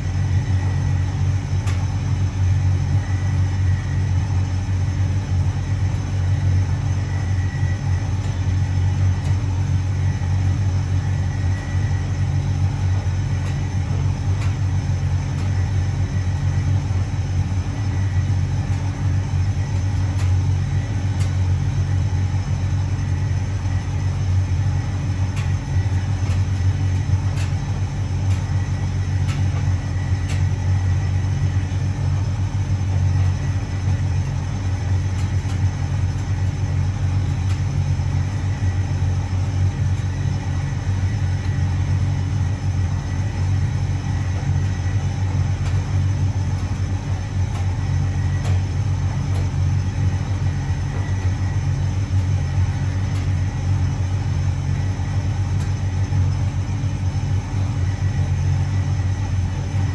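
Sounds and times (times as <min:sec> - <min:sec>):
tumble dryer humming: 0:00.0 - 0:59.9.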